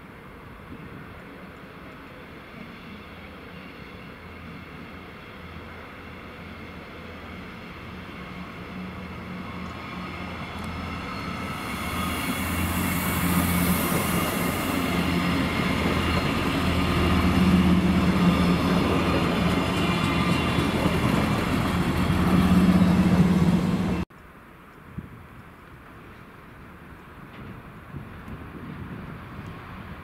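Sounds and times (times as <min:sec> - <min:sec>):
train passing close by: 0:00.0 - 0:24.1.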